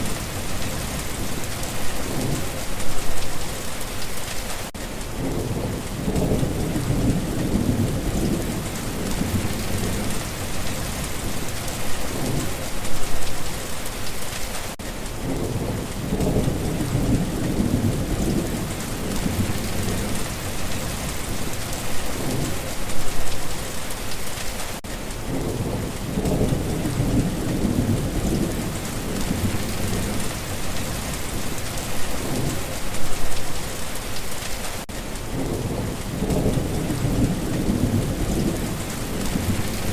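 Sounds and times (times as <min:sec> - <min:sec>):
thunder rumbling: 0:00.0 - 0:04.2, 0:05.1 - 0:13.8, 0:15.2 - 0:23.6, 0:25.2 - 0:33.8, 0:35.2 - 0:39.9
rain falling: 0:00.0 - 0:39.9.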